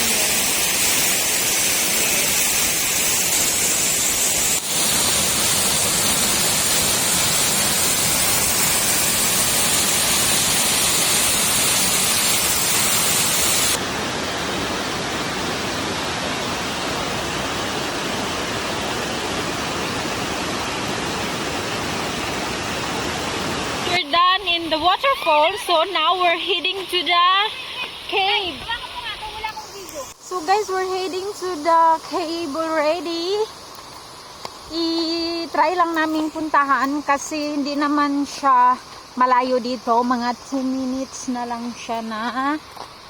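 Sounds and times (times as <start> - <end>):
waterfall rushing and splashing: 0.0 - 39.2.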